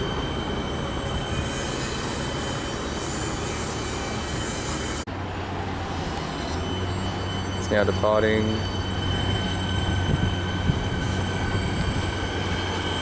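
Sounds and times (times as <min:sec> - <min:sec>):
high-pitched train whine: 0:00.0 - 0:13.0
train wheels rumbling on rail: 0:00.0 - 0:13.0.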